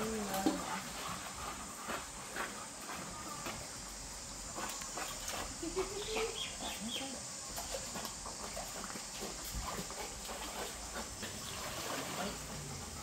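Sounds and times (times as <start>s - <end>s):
dog paddling and splashing water: 0.0s - 3.7s, 4.3s - 13.0s.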